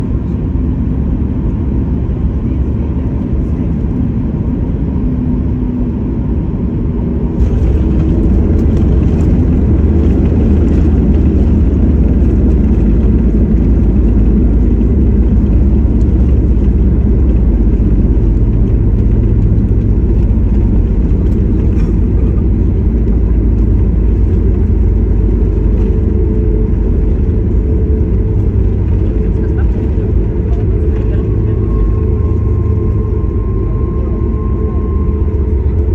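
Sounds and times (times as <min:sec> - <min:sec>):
jet cabin engine rumble: 0:00.0 - 0:35.9.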